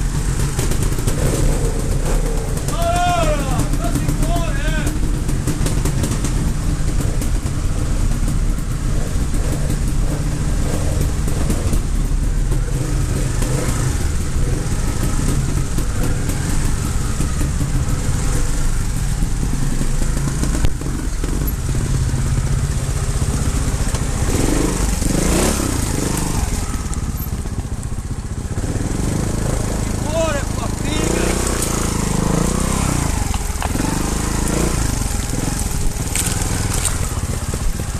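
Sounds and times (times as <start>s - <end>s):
motorcycle engines running: 0.0s - 37.9s.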